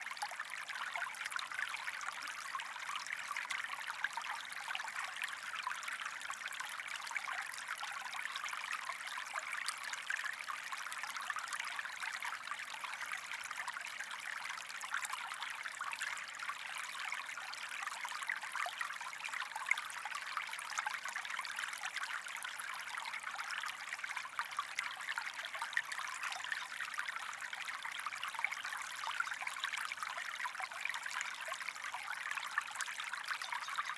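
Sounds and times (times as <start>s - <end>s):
stream water trickling: 0.0s - 33.9s.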